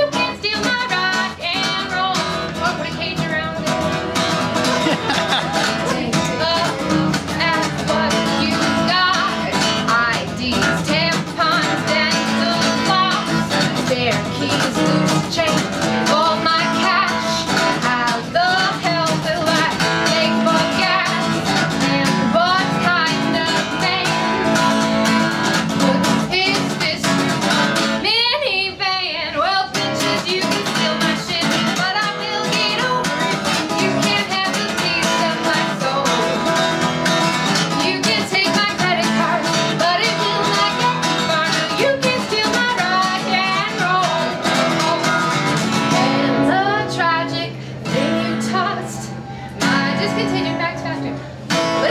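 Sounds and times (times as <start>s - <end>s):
acoustic guitar strumming: 0.0s - 51.9s
woman singing: 0.0s - 51.9s.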